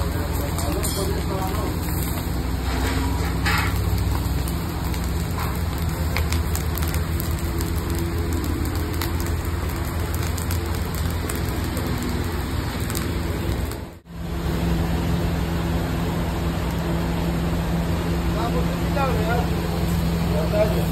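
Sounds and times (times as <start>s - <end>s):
skewers sizzling over charcoal: 0.0s - 20.9s.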